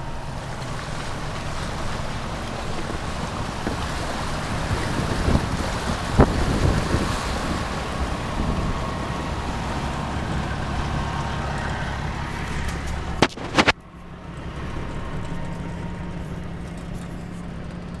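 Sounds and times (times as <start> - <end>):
rushing wind and water: 0.0 - 18.0.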